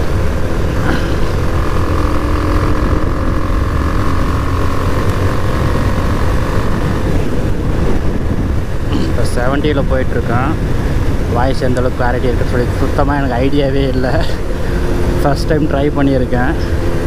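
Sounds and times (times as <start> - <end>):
motorcycle engine running: 0.0 - 17.0
wind rumble on helmet mic: 0.0 - 17.0.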